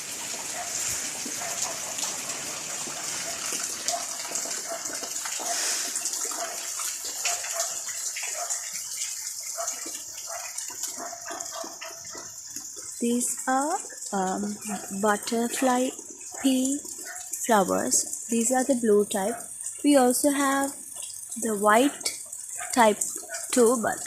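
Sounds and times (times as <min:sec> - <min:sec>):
drips ticking on surfaces: 0:00.0 - 0:24.0
light rain falling: 0:00.0 - 0:24.0.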